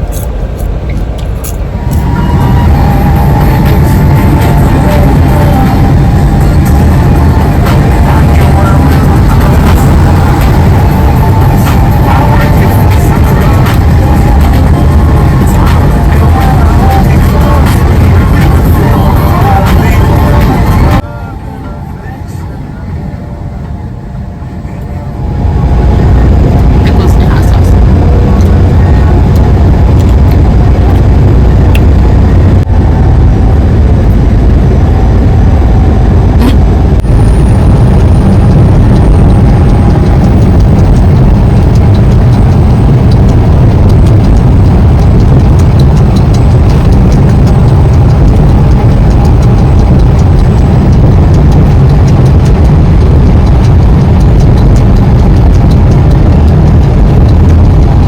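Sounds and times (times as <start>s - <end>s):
road noise: 0.0s - 58.0s
truck engine rumbling: 0.0s - 58.0s.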